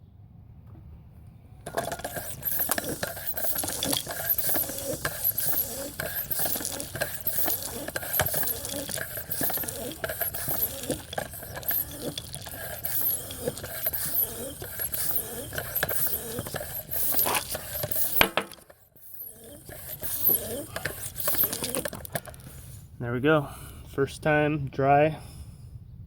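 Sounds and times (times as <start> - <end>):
floor pump clicking and clattering: 1.6 - 22.8.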